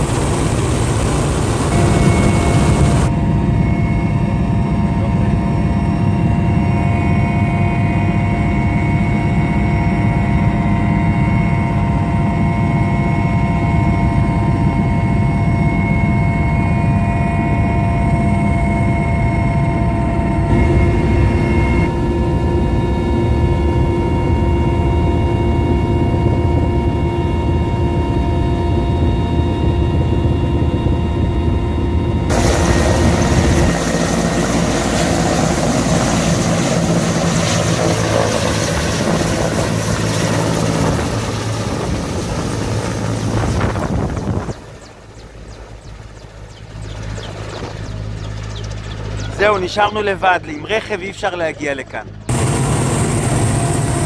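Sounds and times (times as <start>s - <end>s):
helicopter rotor drone: 0.0s - 54.0s
turbine whine: 0.0s - 54.0s.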